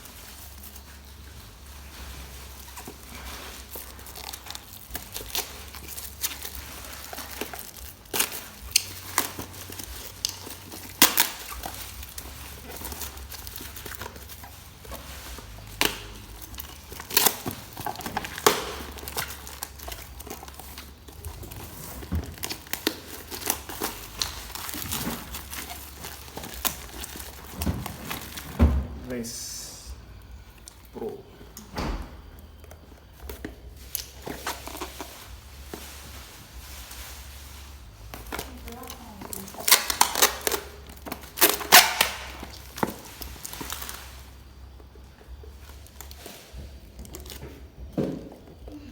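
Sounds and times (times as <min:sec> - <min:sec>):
packaging crinkling and tearing: 0:00.0 - 0:29.2, 0:32.4 - 0:48.9.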